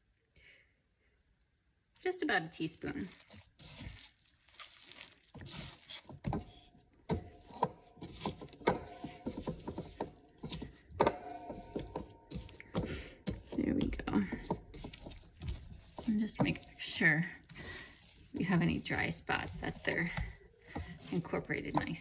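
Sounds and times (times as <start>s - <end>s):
dough squishing and slapping: 2.6s - 22.0s.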